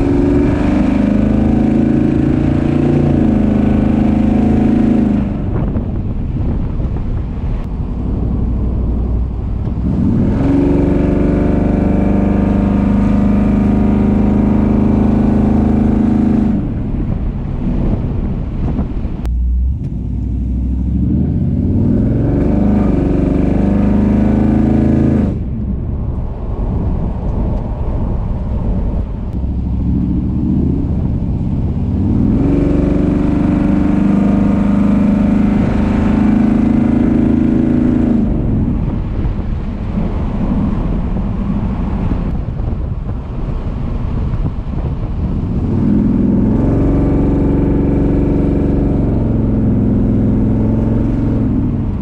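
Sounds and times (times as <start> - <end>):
engine exhaust accelerating: 0.0 - 52.0.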